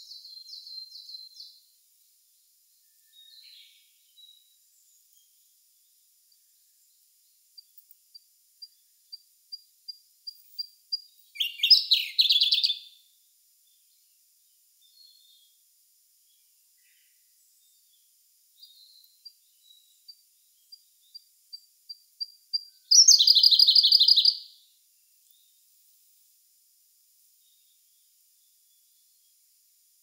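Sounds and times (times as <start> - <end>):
bird singing ticking notes and trill: 0.0 - 26.4.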